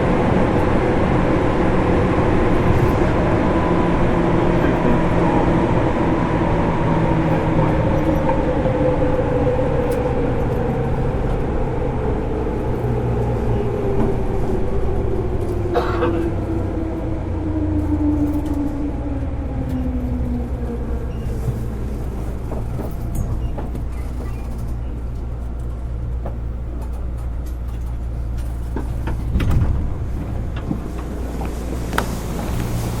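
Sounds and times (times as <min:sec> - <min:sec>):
train rolling rumble: 0:00.0 - 0:33.0.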